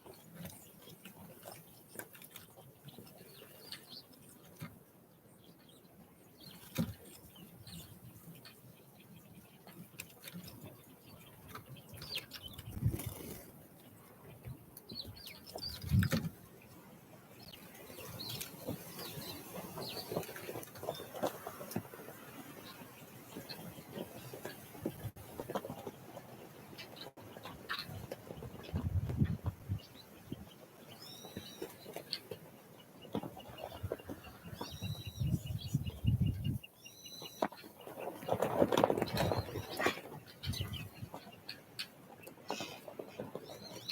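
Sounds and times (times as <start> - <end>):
songbirds calling: 0.0 - 43.9.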